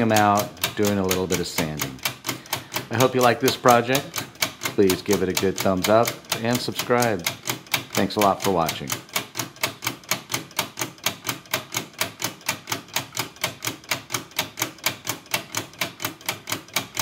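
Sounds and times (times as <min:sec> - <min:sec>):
clock mechanism ticking: 0:00.0 - 0:17.0.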